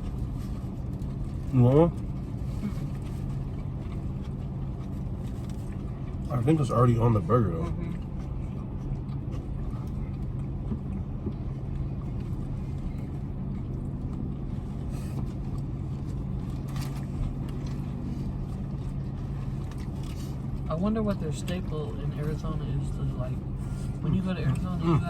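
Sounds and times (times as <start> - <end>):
faint clicks and rustles: 0.0 - 6.3, 7.6 - 24.8
car engine idling: 0.0 - 25.0.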